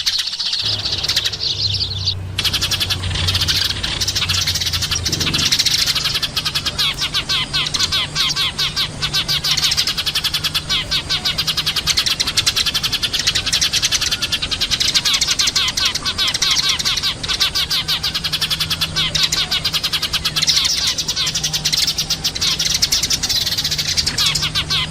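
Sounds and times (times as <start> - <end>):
sparrows chirping: 0.0 - 24.9
steady low hum: 0.2 - 24.9.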